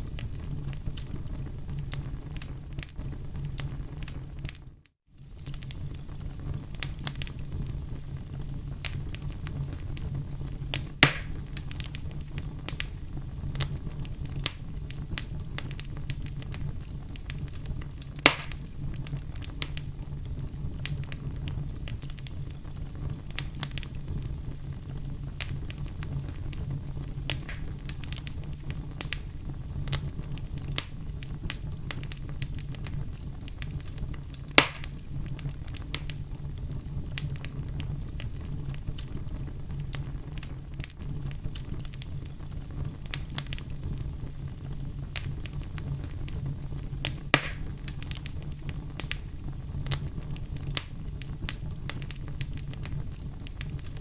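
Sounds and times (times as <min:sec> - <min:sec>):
fire crackling: 0:00.0 - 0:54.0
fire popping: 0:00.0 - 0:54.0.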